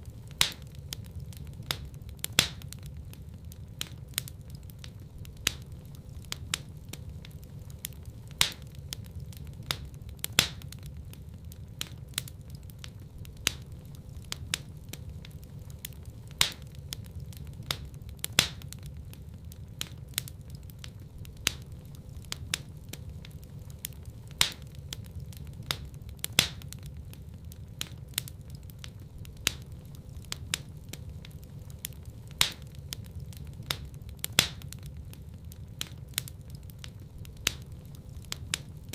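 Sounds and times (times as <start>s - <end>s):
loud fire pops: 0.0s - 38.9s
wood fire crackling: 0.0s - 38.9s.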